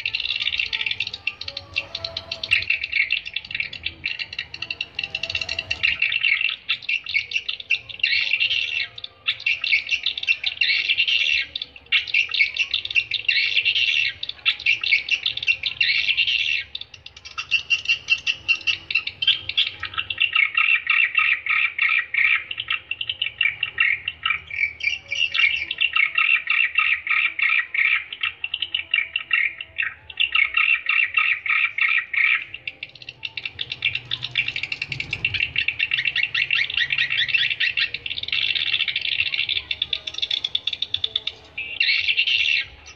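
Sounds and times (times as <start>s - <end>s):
swiftlets twittering: 0.0s - 42.9s.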